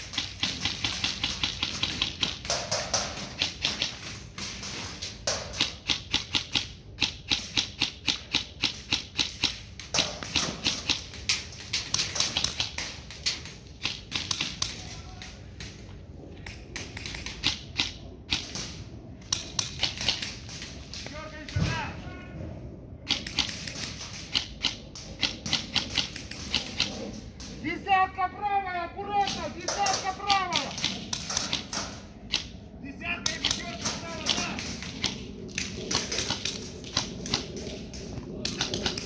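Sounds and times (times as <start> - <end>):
airsoft guns firing: 0.0 - 15.8, 16.7 - 21.9, 23.1 - 27.5, 29.1 - 39.0.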